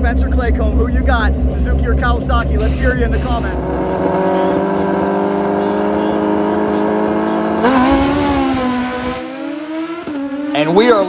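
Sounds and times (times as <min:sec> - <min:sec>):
motorcycle engines revving high: 0:00.0 - 0:11.0.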